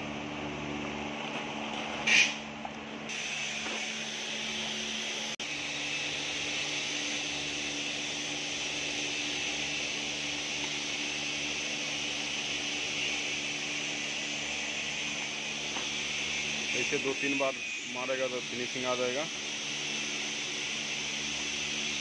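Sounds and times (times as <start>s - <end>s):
machine humming and hissing: 0.0s - 22.0s.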